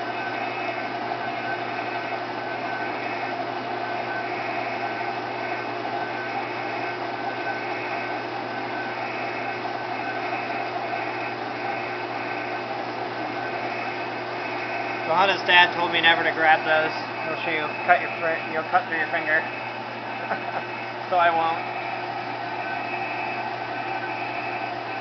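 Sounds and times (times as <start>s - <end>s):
milling machine cutting metal: 0.0s - 25.0s
spindle motor humming: 0.0s - 25.0s.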